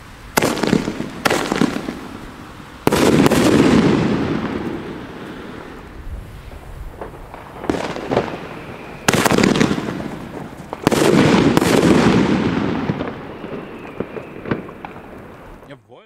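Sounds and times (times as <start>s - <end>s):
loud firework bangs with echo: 0.3s - 15.6s.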